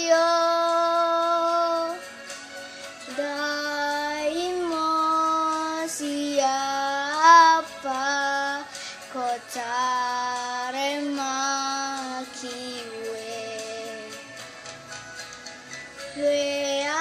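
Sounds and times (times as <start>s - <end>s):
girl singing: 0.0s - 2.1s, 3.1s - 14.2s, 16.2s - 17.0s.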